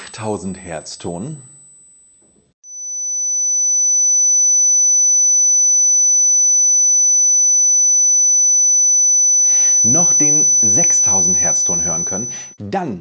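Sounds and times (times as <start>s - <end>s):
steady sine test tone: 0.0s - 12.5s
high sine test tone: 0.0s - 12.6s.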